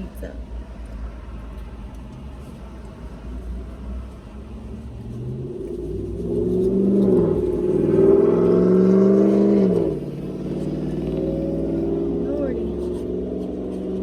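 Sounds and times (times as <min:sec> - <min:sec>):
car engine accelerating: 0:01.0 - 0:14.0.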